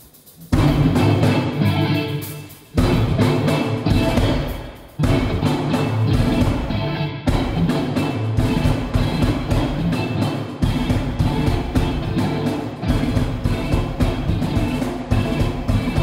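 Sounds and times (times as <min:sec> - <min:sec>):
hard drum hits: 0:00.5 - 0:01.7, 0:02.3 - 0:16.0
live rock band playing: 0:00.5 - 0:16.0
lead electric guitar: 0:00.6 - 0:16.0.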